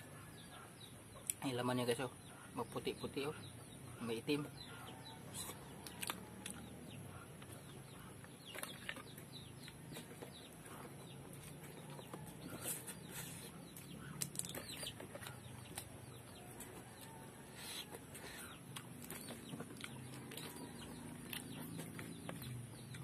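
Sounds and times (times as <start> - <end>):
faint eating sounds: 0.0 - 23.0.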